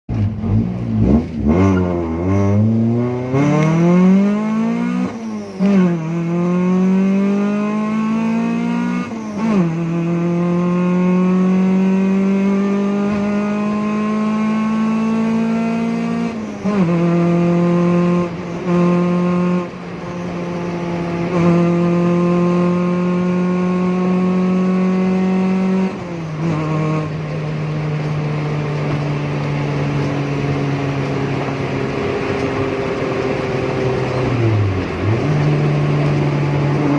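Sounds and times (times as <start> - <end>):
car engine accelerating through gears: 0.1 - 36.9.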